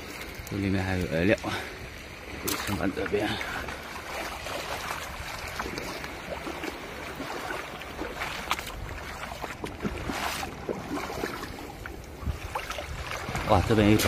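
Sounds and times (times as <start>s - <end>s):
seawater splashing and sloshing: 0.0s - 14.0s.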